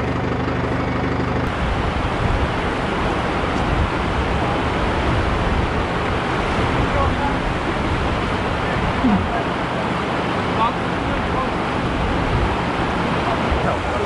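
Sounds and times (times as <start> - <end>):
vehicle engine running: 0.0 - 14.0
continuous rushing noise: 1.4 - 14.0.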